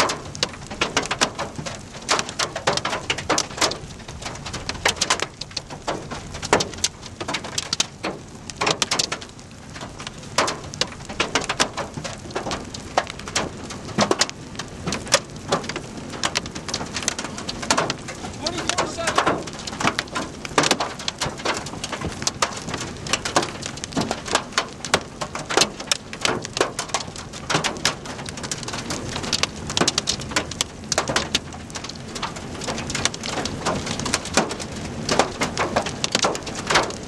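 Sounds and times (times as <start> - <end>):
rain striking a vehicle: 0.0 - 37.0.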